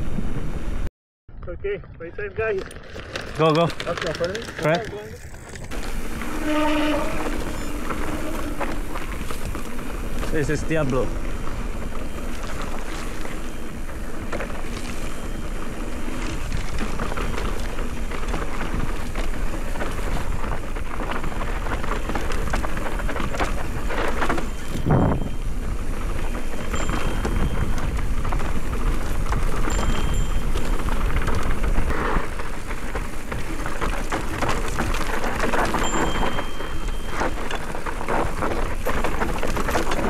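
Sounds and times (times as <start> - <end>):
tyres rumbling over dirt: 2.1 - 40.0
wind buffeting microphone: 4.6 - 40.0.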